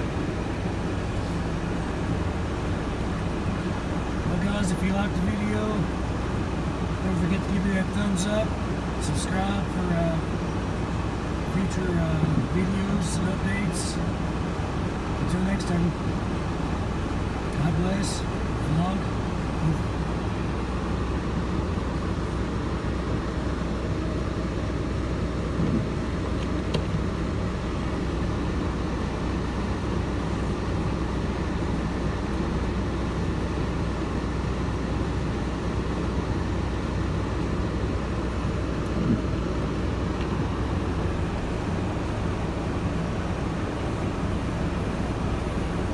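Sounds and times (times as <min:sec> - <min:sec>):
low rumble of motor vehicles: 0:00.0 - 0:45.9.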